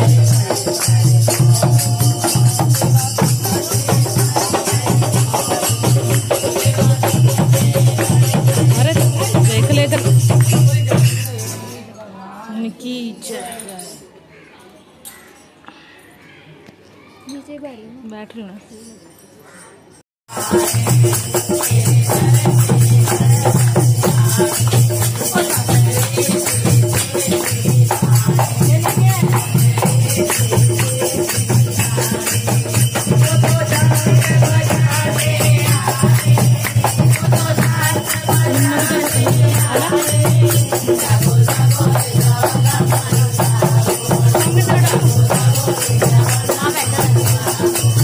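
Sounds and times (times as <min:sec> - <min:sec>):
devotional singing: 0:00.0 - 0:12.0, 0:20.3 - 0:48.0
jingling hand percussion: 0:00.0 - 0:14.2, 0:18.6 - 0:48.0.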